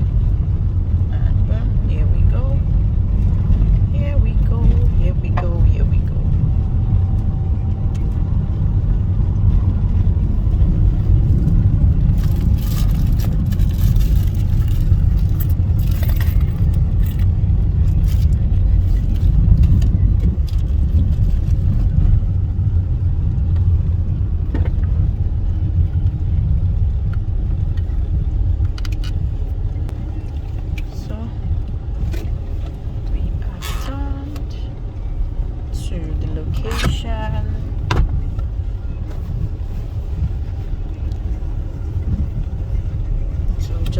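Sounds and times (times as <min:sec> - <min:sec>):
road and engine rumble: 0:00.0 - 0:43.9.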